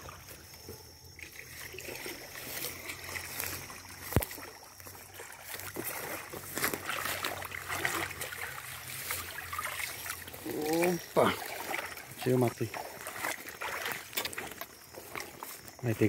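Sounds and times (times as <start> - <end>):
muddy water sloshing: 0.0 - 16.0.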